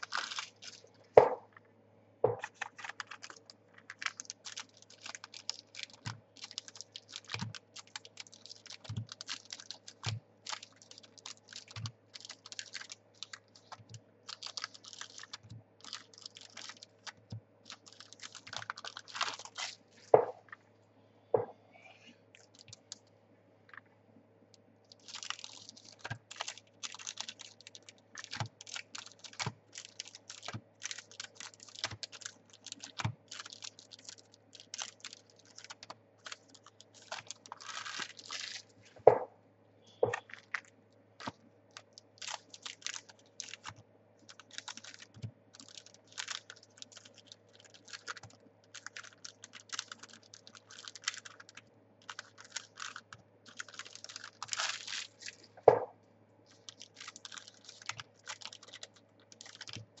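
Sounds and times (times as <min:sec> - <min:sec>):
cards clicking and rustling: 0:00.0 - 0:01.5, 0:02.3 - 0:20.6, 0:25.0 - 0:38.6, 0:40.0 - 0:55.8.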